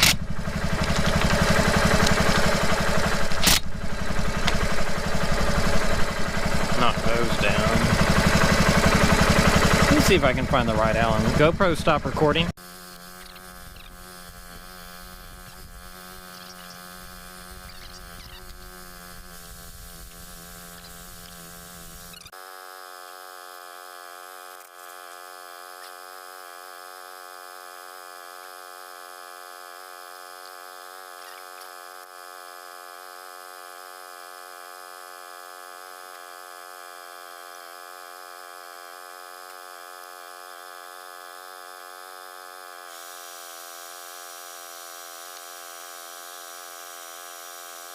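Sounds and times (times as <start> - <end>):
buzzy electrical hum: 0.0 - 47.9.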